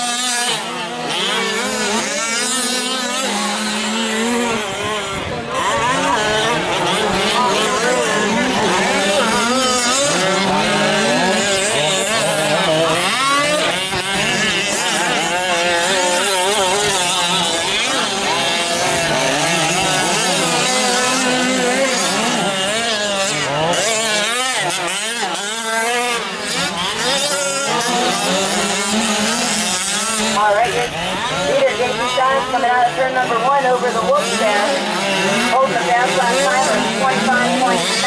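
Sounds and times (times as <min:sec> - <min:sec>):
rc truck engines revving: 0:00.0 - 0:38.0.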